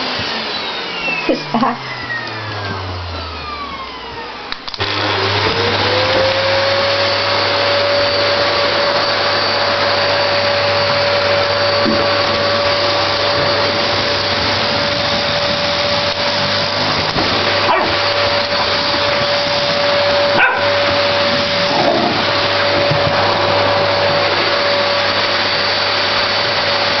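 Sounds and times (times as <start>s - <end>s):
vacuum cleaner motor whine: 0.0s - 27.0s.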